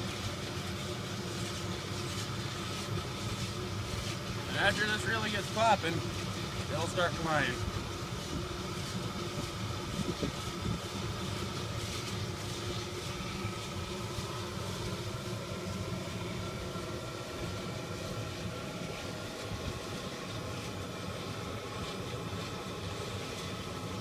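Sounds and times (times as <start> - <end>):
gas burner rumbling: 0.0 - 24.0.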